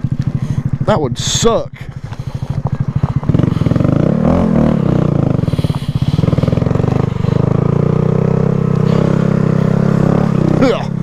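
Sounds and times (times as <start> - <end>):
motorcycle engine running under load: 0.0 - 11.0.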